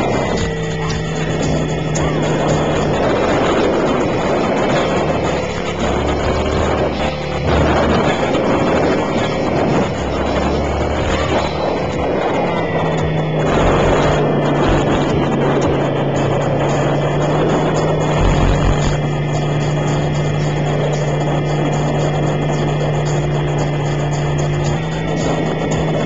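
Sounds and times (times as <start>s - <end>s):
rc helicopter rotor and motor noise: 0.0s - 26.0s.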